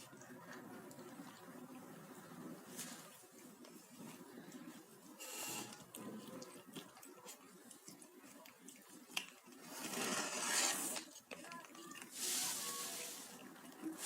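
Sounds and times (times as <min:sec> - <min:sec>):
kitten chewing food: 0:00.0 - 0:14.0.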